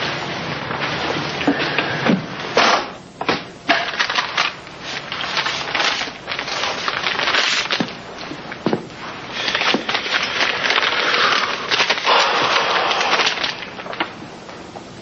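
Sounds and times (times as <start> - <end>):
dense crackling noise: 2.3 - 15.0.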